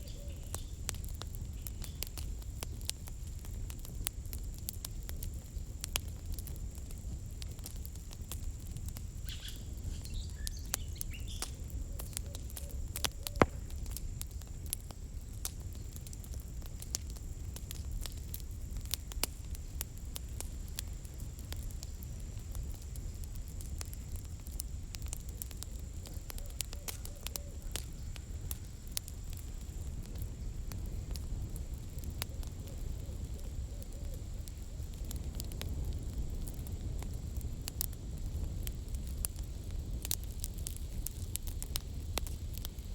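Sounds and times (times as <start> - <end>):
campfire crackling: 0.0 - 42.9
fire pop: 0.1 - 42.9.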